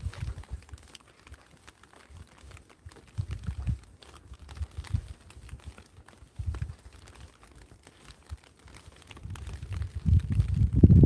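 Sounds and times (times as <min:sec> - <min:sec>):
footsteps on wet pavement: 0:00.0 - 0:11.0
raindrops ticking on umbrella: 0:00.0 - 0:11.0.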